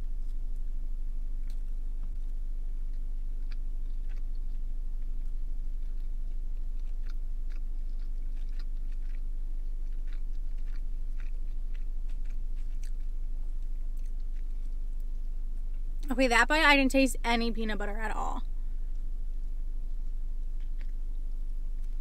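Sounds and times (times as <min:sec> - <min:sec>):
person chewing close to mic: 0:00.0 - 0:16.1, 0:19.8 - 0:22.0
steady low hum: 0:00.0 - 0:22.0.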